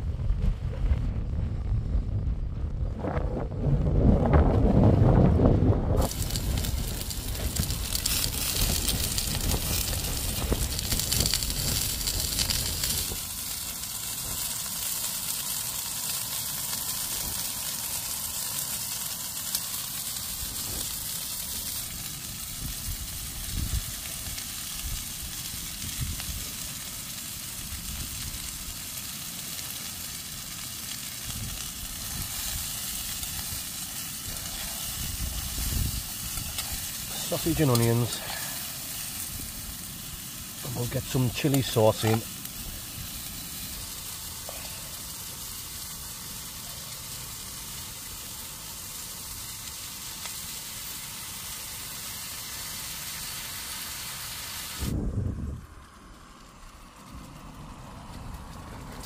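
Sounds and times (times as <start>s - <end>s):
sausages sizzling in a pan: 6.0s - 54.9s.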